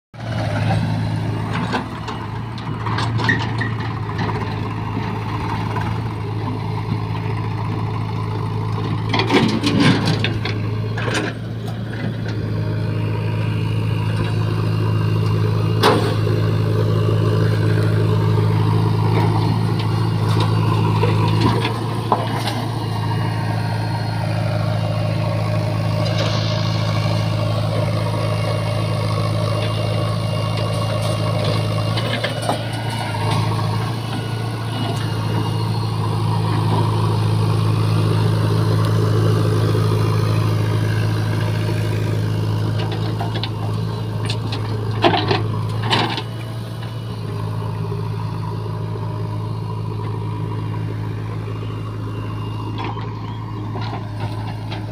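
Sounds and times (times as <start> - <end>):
diesel engines running at low revs: 0.1 - 54.9.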